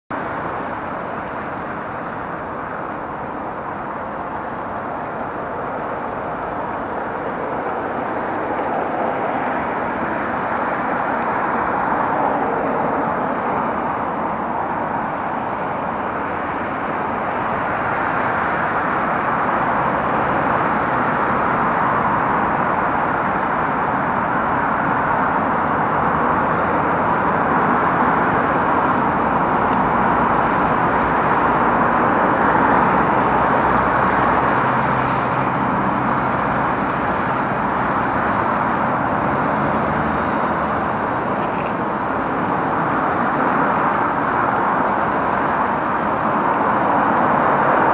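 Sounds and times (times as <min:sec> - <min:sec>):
road traffic din: 0:00.1 - 0:47.9.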